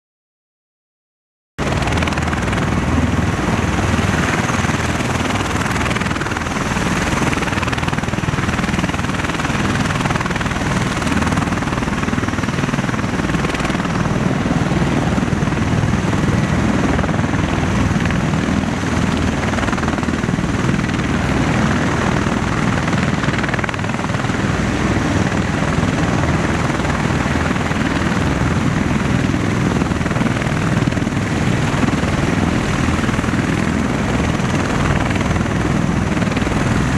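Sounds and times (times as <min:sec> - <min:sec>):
heavy rotor noise: 0:01.6 - 0:36.9
other rotorcraft running: 0:01.6 - 0:36.9.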